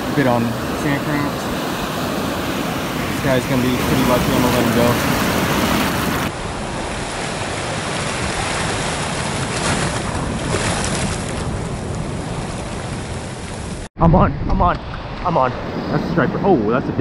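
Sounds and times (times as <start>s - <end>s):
ocean waves breaking on beach: 0.0s - 13.9s
wind on microphone: 0.0s - 17.0s.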